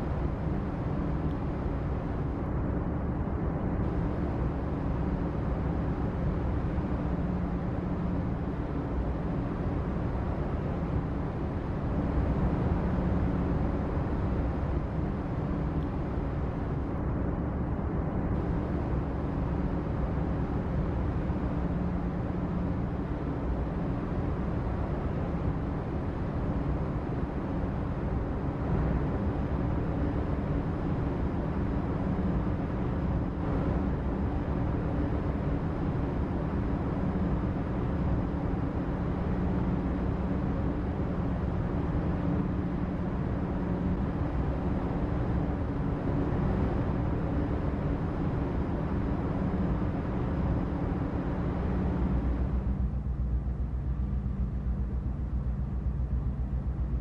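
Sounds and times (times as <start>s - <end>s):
faint continuous hum: 0.0s - 57.0s.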